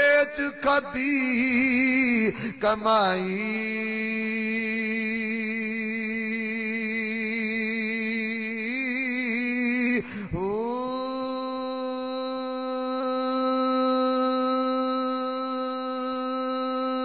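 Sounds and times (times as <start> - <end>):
man chanting long held notes: 0.0 - 17.0.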